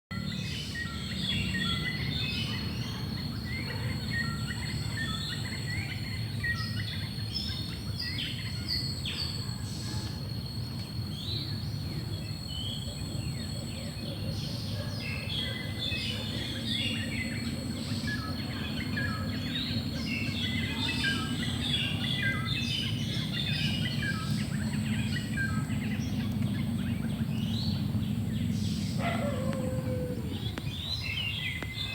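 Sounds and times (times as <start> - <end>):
forest birds chirping: 0.1 - 31.9.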